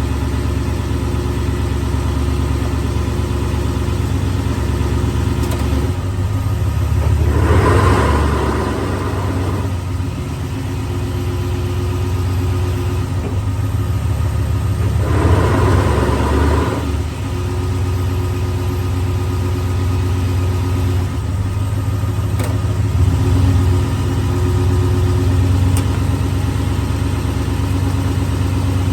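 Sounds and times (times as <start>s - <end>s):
engine running with grinding: 0.0s - 28.9s.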